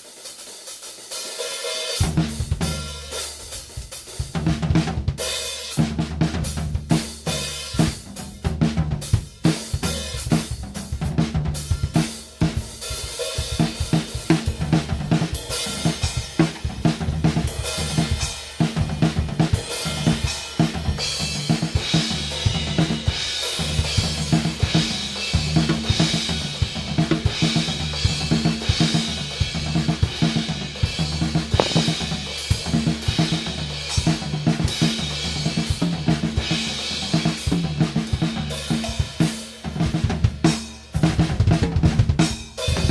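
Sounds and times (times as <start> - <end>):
drum kit playing: 0.0 - 42.1.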